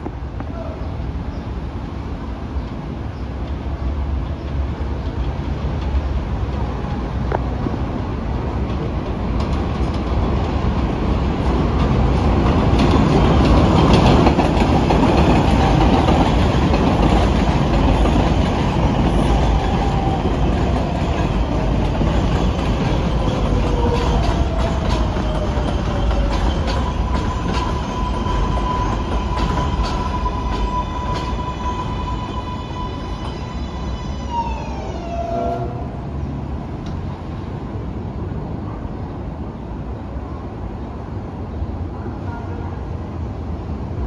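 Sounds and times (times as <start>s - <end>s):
subway train wheel clatter: 0.0s - 44.0s.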